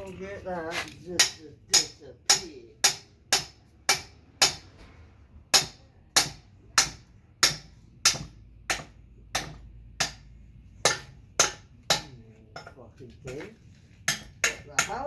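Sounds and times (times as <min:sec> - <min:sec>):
hammer striking steel: 0:01.2 - 0:04.8, 0:05.5 - 0:13.5, 0:14.1 - 0:15.0.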